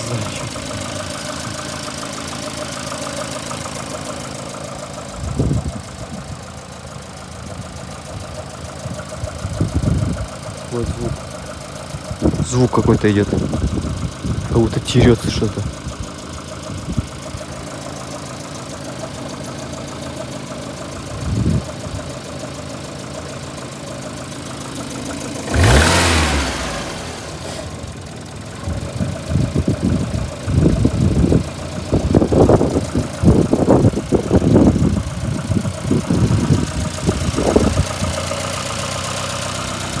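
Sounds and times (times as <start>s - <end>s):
car engine knocking: 0.0s - 40.0s.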